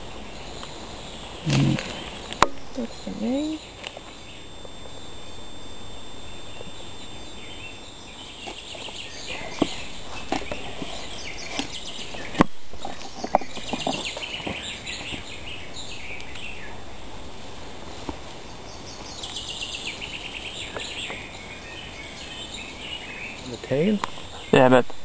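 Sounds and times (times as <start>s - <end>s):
songbirds chirping: 0.0s - 25.0s
steady outdoor hiss: 0.0s - 25.0s.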